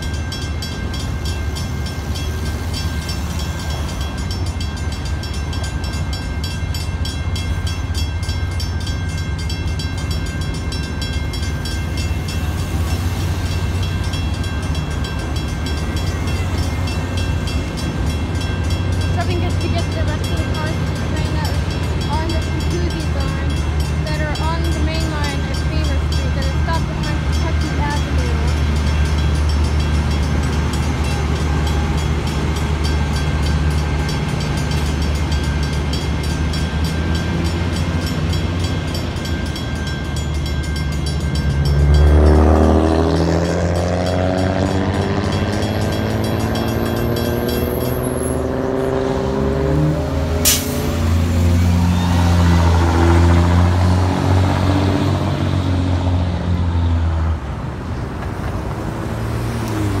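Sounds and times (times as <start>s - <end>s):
crossing bell ringing: 0.0s - 57.6s
diesel locomotive rumbling: 0.0s - 60.0s
road vehicles passing: 0.0s - 60.0s.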